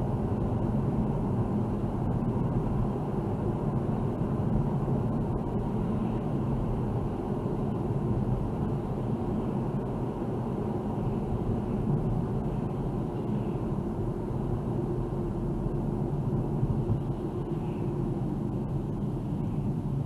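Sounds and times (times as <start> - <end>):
car driving rumble: 0.0 - 20.0
road and tyre noise: 0.0 - 20.0.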